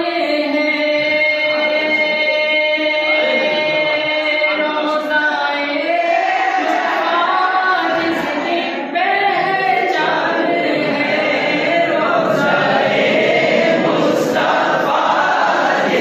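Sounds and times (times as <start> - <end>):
person singing unaccompanied: 0.0 - 16.0.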